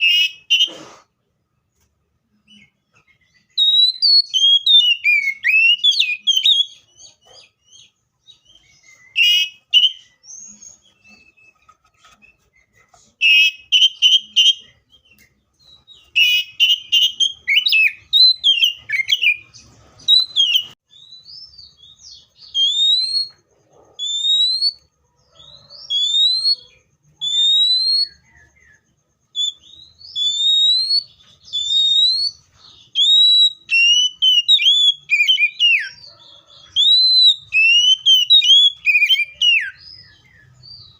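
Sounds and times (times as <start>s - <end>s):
magpie-robin singing: 0.0s - 0.8s, 2.4s - 40.9s.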